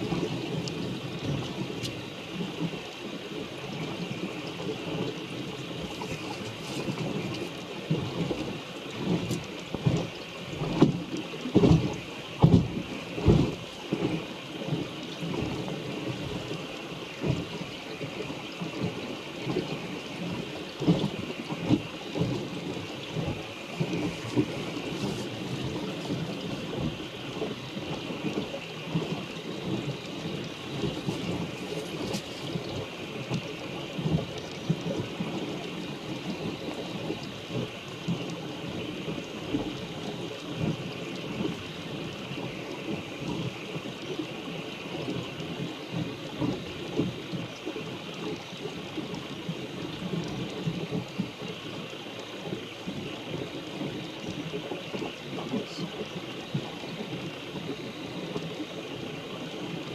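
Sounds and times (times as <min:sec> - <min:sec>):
water rushing past hull: 0:00.0 - 0:59.9
wind buffeting microphone: 0:00.0 - 0:59.9.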